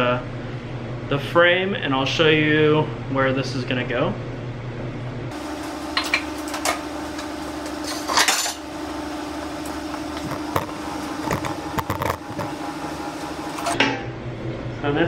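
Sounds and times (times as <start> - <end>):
steady hum: 0.0 - 14.7.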